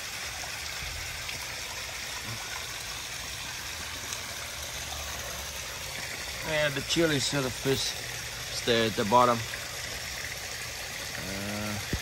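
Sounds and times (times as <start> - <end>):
waterfall splashing and trickling: 0.0 - 12.0.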